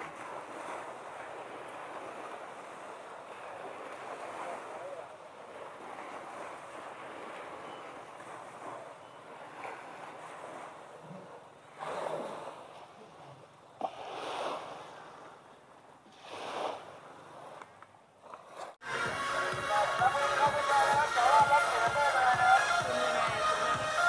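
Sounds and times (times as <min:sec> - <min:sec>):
small waves washing on sand: 0:00.0 - 0:24.0.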